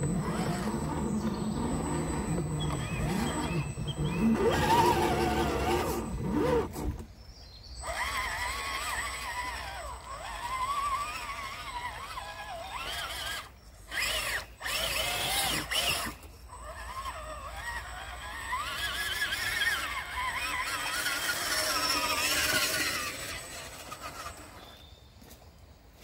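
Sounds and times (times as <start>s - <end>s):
electric motor and gear drive whining: 0.0s - 25.4s.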